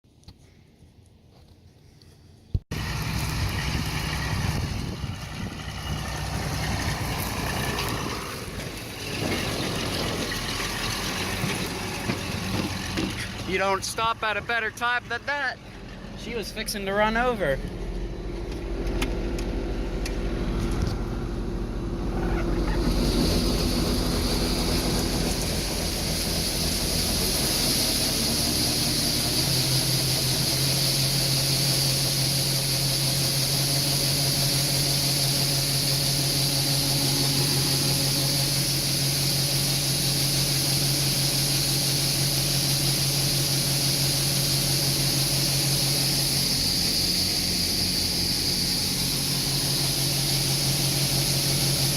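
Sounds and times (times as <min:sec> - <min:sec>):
combine harvester running: 0:02.7 - 0:51.9.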